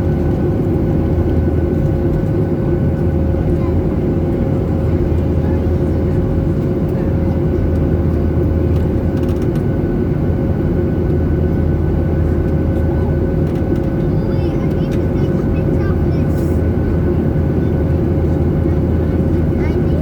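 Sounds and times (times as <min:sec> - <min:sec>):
constant hum: 0:00.0 - 0:20.0
jet airliner cabin drone: 0:00.0 - 0:20.0.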